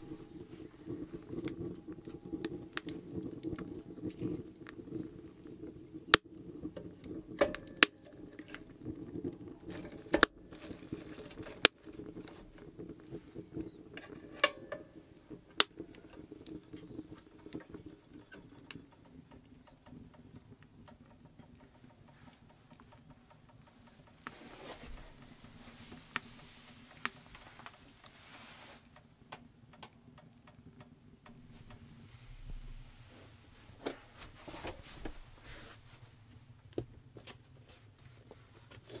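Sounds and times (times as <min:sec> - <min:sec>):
low steady hum: 0:00.0 - 0:39.0
wood fire crackling: 0:00.0 - 0:39.0.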